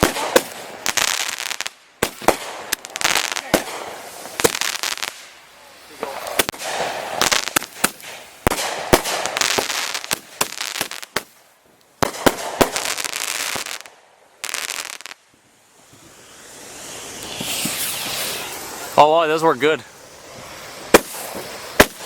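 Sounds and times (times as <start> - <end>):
firework bangs and pops: 0.0 - 19.0, 20.0 - 22.0
firework fizzing hiss: 0.0 - 22.0.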